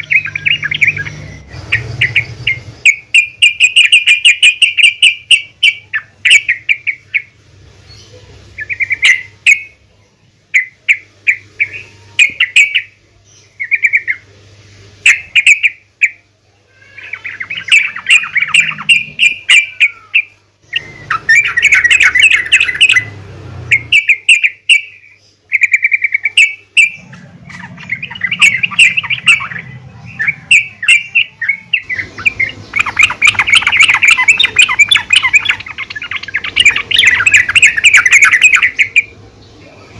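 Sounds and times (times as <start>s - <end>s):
bird chirping and chattering: 0.0s - 9.8s, 10.5s - 14.3s, 15.0s - 39.9s.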